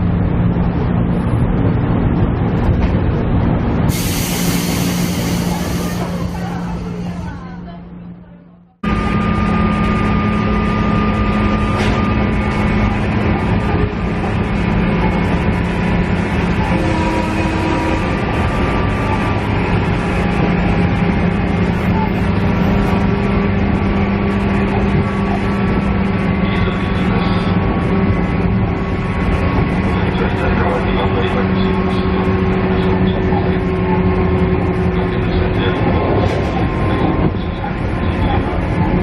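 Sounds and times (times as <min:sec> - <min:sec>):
diesel engine drone: 0:00.0 - 0:39.0.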